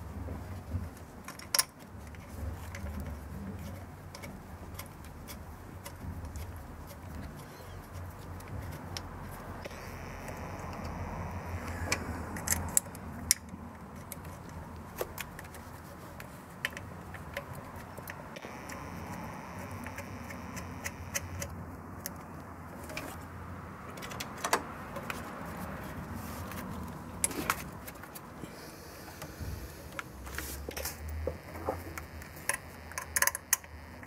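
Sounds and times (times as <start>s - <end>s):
steady low hum: 2.0s - 23.9s, 25.5s - 34.0s.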